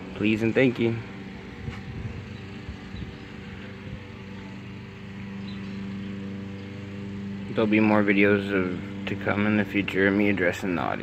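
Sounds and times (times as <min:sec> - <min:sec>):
steady machine hum: 0:00.0 - 0:11.0
uneven low rumbling: 0:00.0 - 0:11.0.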